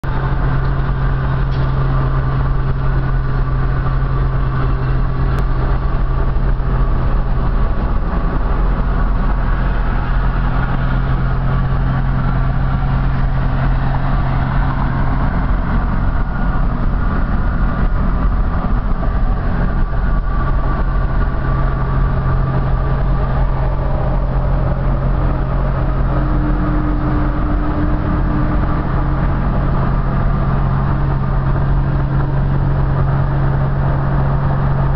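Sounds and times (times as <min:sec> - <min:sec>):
pickup engine drone: 0:00.0 - 0:34.9
road and wind noise: 0:00.0 - 0:34.9.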